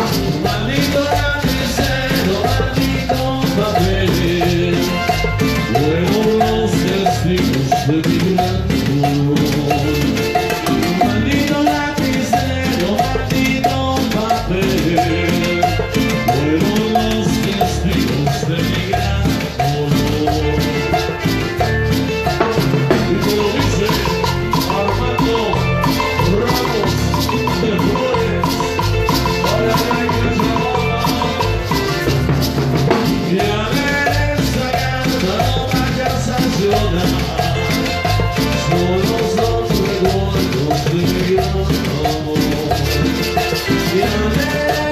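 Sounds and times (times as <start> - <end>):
band playing latin dance music: 0.0 - 44.9.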